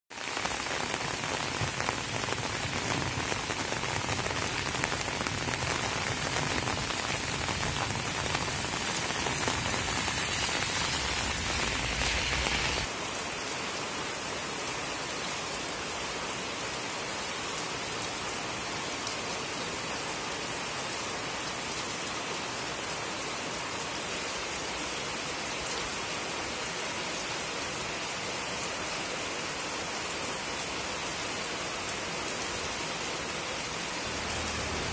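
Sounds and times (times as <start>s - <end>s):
rain falling on a wet road: 0.1s - 34.9s.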